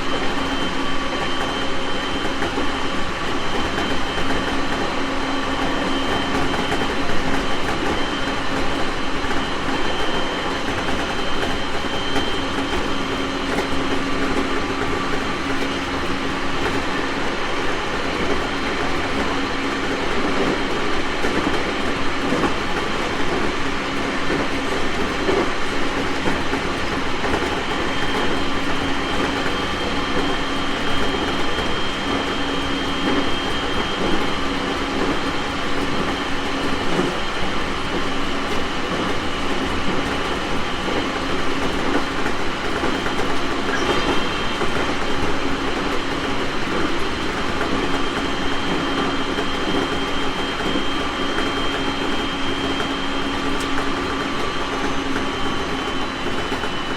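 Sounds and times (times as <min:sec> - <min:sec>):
train motor hum: 0:00.0 - 0:56.9
wheels rolling on rail: 0:00.0 - 0:56.9.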